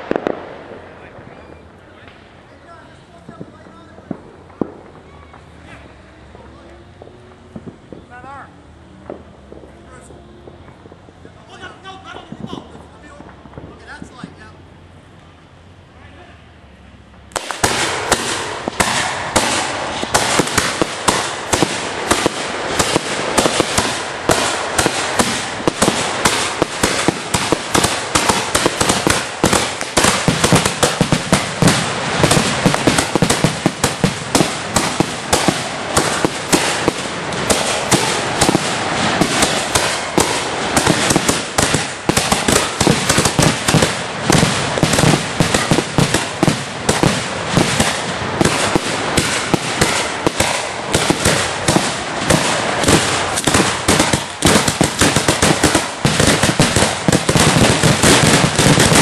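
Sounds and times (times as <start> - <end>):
firework crackling: 0.0 - 15.8, 16.8 - 59.0.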